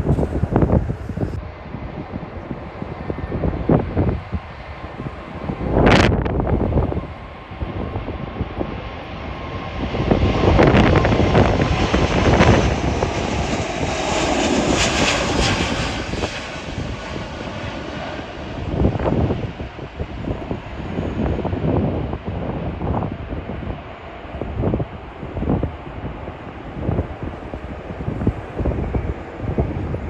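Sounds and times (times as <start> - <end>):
airliner engine roar: 0.0 - 30.0
wind buffeting microphone: 0.0 - 30.0.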